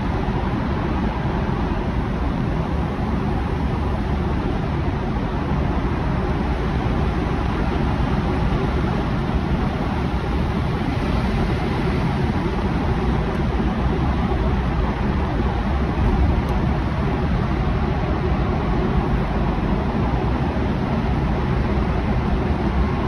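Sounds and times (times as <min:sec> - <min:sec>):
car road noise in tunnel: 0:00.0 - 0:23.0.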